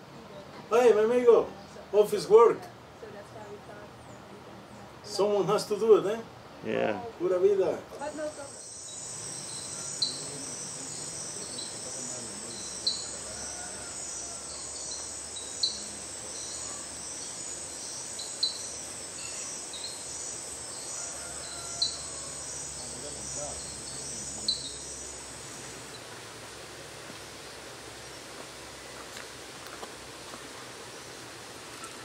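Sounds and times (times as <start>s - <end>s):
insects buzzing: 2.0s - 32.0s.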